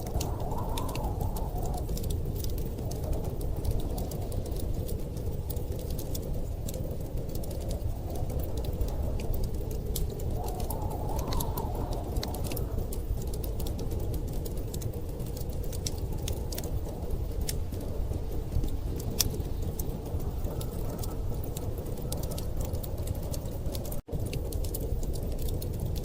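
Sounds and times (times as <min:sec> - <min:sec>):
storm wind rushing: 0:00.0 - 0:26.0
wood fire crackling and popping: 0:00.0 - 0:26.0.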